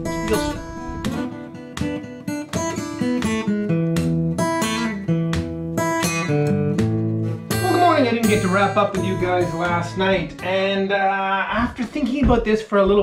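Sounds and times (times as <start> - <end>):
acoustic guitar music: 0.0 - 12.2.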